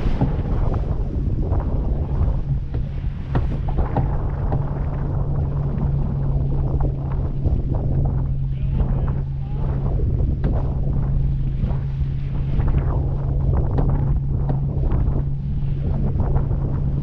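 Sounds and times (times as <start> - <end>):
steady low hum: 0.0 - 17.0
water rushing along hull: 0.0 - 17.0
wind buffeting microphone: 0.0 - 17.0.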